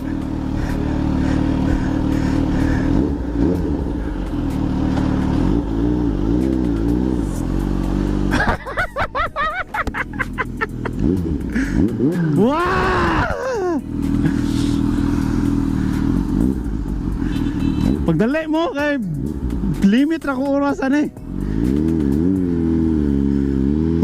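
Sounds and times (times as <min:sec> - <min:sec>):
motorcycle exhaust note: 0:00.0 - 0:08.6, 0:09.4 - 0:20.1, 0:21.2 - 0:24.0.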